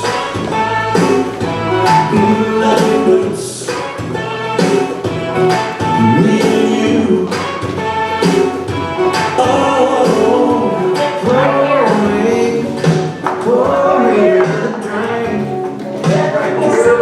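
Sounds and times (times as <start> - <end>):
country song: 0.0 - 17.0.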